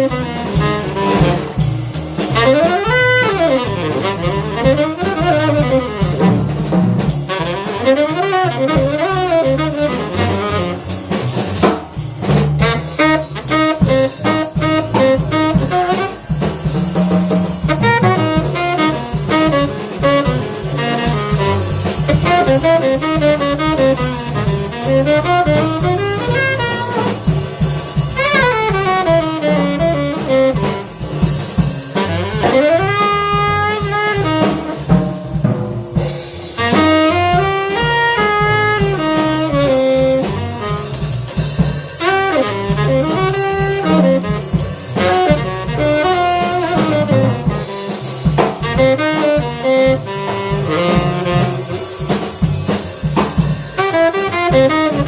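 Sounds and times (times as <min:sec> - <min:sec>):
tenor saxophone runs: 0:00.0 - 0:11.2, 0:12.6 - 0:16.5, 0:17.4 - 0:35.0, 0:36.5 - 0:55.0
cymbal-driven drums: 0:00.0 - 0:55.0
double bass: 0:00.0 - 0:55.0.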